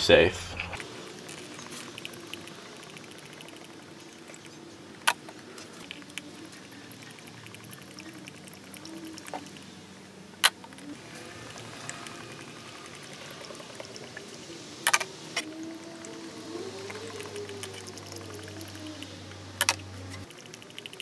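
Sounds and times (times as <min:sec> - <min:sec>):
motor oil pouring through funnel: 0:00.8 - 0:21.0.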